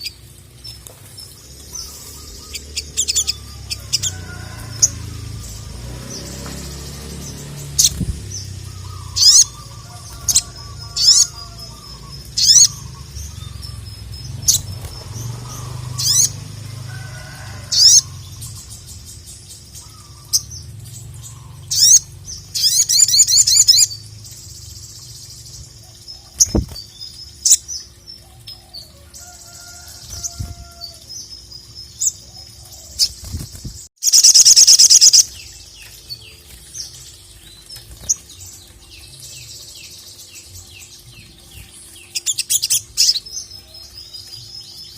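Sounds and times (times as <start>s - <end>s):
sunbird chirping and trilling: 0.0s - 44.9s.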